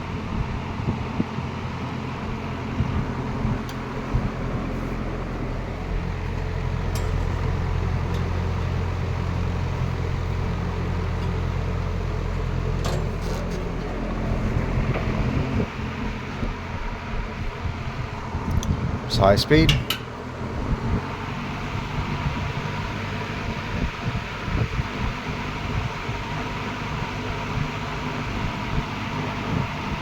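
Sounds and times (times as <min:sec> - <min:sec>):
box fan running: 0:00.0 - 0:30.0.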